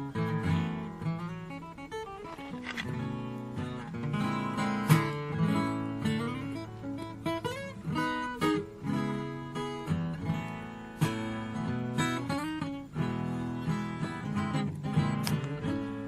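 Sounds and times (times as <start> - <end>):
acoustic guitar: 0.0 - 16.0.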